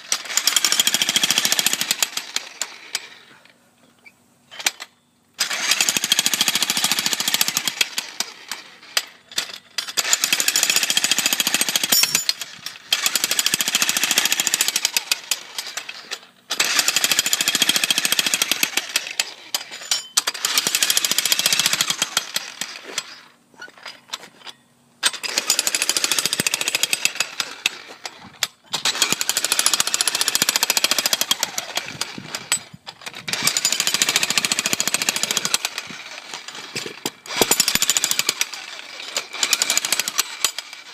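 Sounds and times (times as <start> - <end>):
jackhammer breaking concrete: 0.0 - 3.1, 5.4 - 23.2, 25.0 - 40.9.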